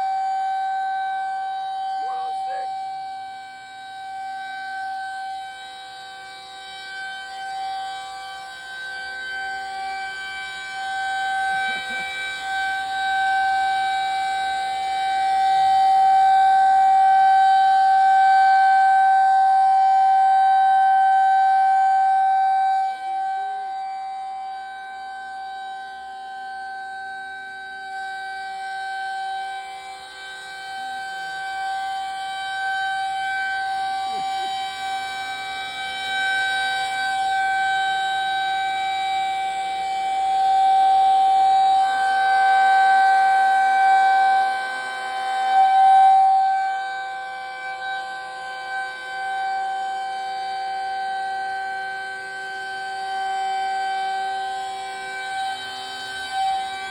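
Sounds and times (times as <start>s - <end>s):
rotating warning siren: 0.0s - 56.9s.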